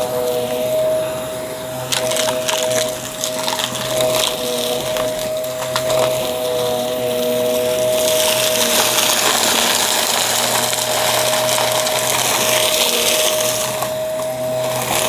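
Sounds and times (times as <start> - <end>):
vacuum cleaner motor whine: 0.0 - 15.0
debris rattling through nozzle: 1.7 - 15.0.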